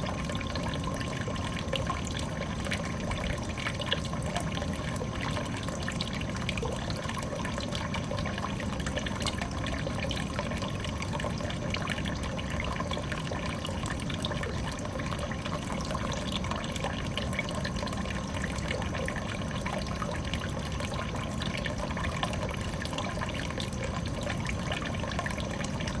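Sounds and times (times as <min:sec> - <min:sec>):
water trickling into a pond: 0:00.0 - 0:26.0.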